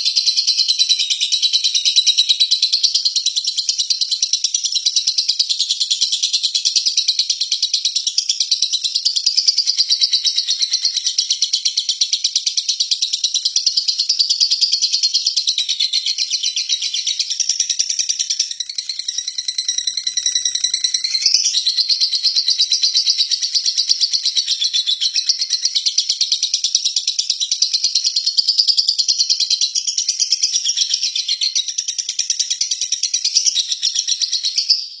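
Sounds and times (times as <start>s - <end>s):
lovebird high-pitched chatter: 0.0s - 35.0s.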